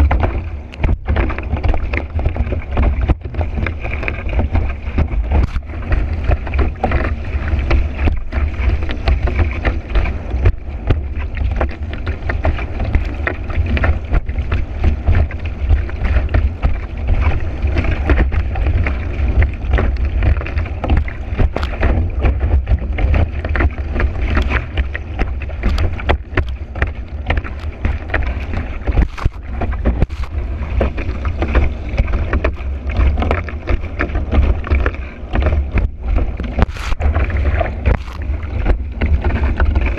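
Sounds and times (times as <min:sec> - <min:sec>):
board slapping on water: 0:00.0 - 0:39.9
water rushing under board: 0:00.0 - 0:39.9
wind buffeting microphone: 0:00.0 - 0:39.9.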